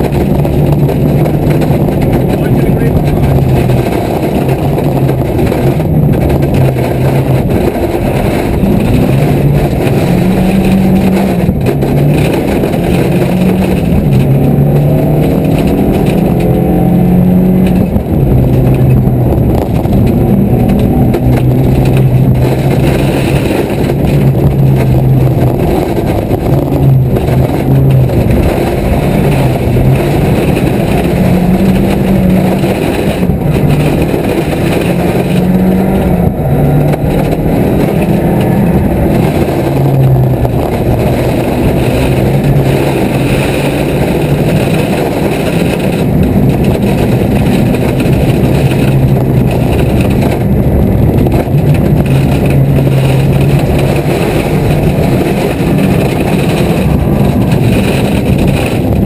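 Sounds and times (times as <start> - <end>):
car engine from inside cabin: 0.0 - 59.0
tyre road noise on gravel: 0.0 - 59.0.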